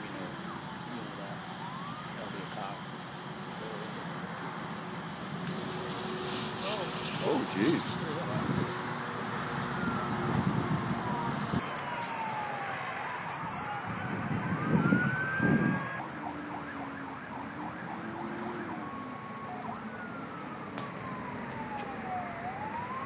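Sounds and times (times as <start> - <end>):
emergency vehicle siren: 0.0 - 23.0.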